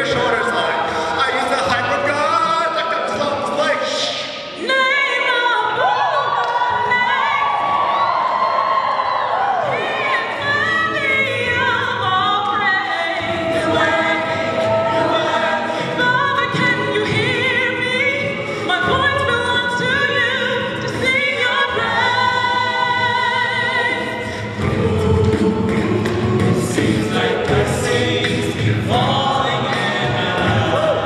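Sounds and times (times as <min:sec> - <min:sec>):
a cappella choir singing: 0:00.0 - 0:31.0.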